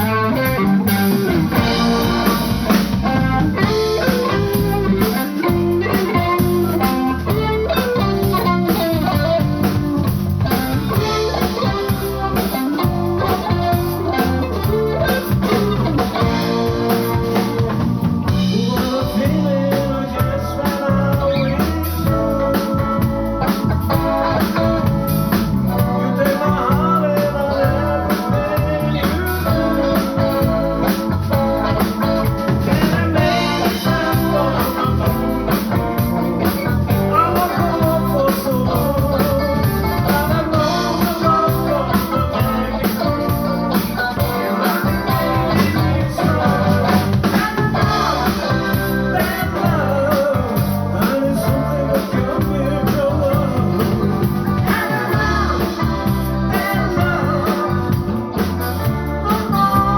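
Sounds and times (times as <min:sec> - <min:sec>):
drum kit beat: 0:00.0 - 0:59.9
electric guitar: 0:00.0 - 0:59.9
person singing: 0:10.8 - 0:24.8, 0:25.7 - 0:59.9.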